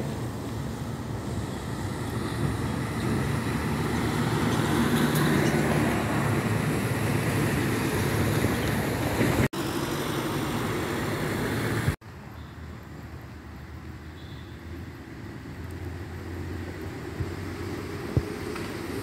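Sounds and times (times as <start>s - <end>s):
traffic on wet road: 0.0s - 19.0s.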